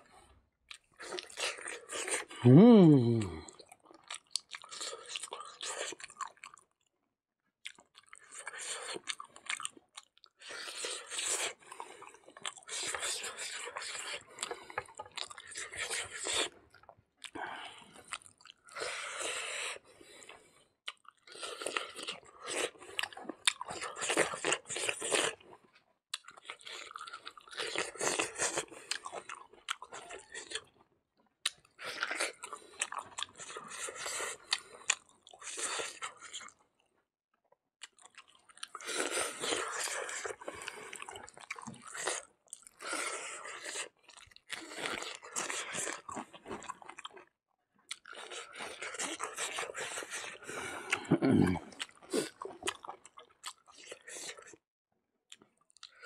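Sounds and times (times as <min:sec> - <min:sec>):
person chewing and crunching food: 0:00.0 - 0:06.9, 0:07.6 - 0:37.0, 0:37.8 - 0:54.6, 0:55.3 - 0:56.0.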